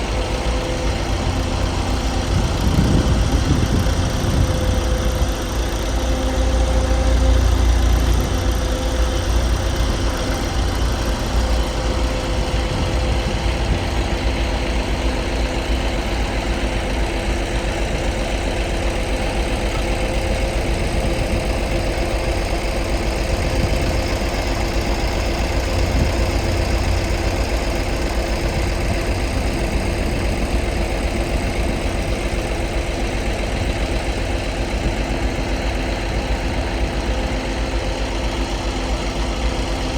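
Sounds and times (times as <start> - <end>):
compactor diesel engine drone: 0.0 - 39.9
steady machine whine: 0.0 - 39.9.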